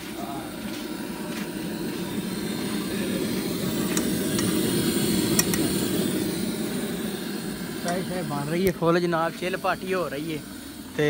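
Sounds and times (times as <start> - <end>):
gas stove burner rushing: 0.0 - 11.0.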